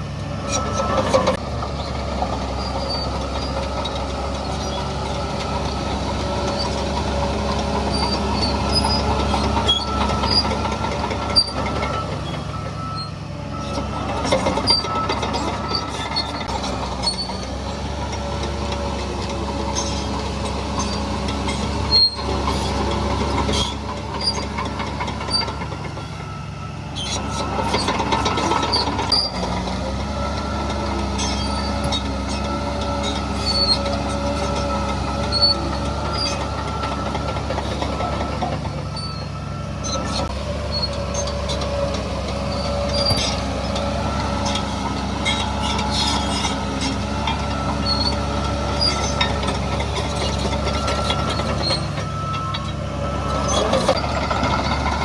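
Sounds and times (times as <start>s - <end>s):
bulldozer diesel engine: 0.0s - 55.0s
tracks squeaking and clanking: 0.0s - 55.0s.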